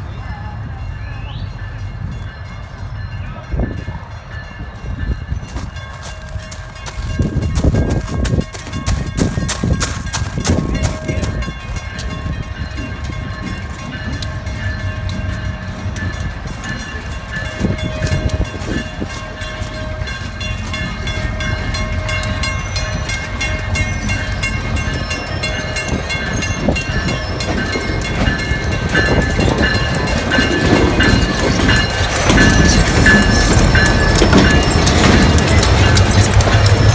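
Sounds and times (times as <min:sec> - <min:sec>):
train rumbling on track: 0:00.0 - 0:36.9
train wheel clicks: 0:05.2 - 0:36.9.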